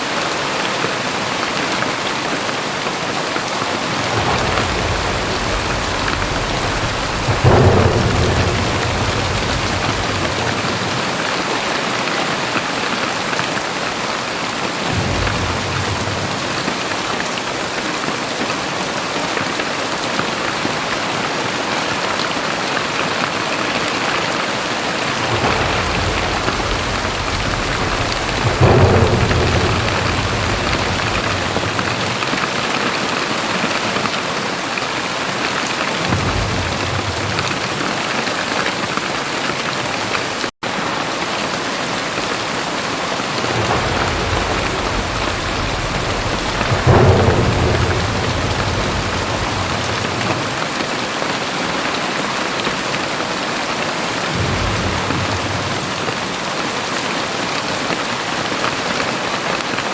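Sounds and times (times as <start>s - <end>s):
heavy rain pouring: 0.0s - 59.9s
low rumbles of thunder: 1.8s - 40.5s, 41.4s - 53.0s, 54.0s - 59.9s.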